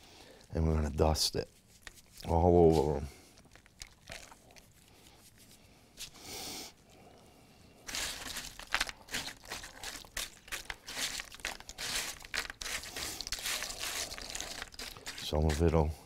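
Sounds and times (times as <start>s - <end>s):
cereal rustling and crackling: 0.9s - 6.2s, 7.8s - 16.0s.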